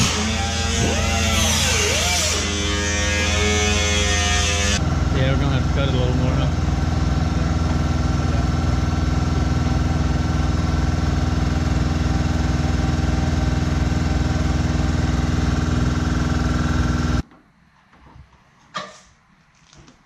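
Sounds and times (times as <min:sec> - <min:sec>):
motor running steadily: 0:00.0 - 0:17.2.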